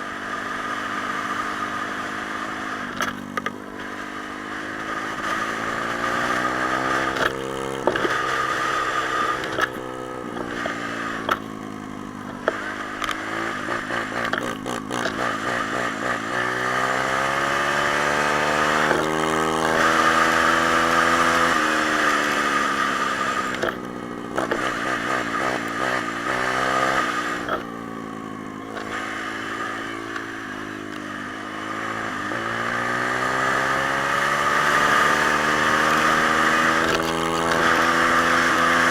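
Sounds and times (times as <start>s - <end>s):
pit bike engine revving: 0.0s - 38.9s
second bike engine: 0.0s - 38.9s.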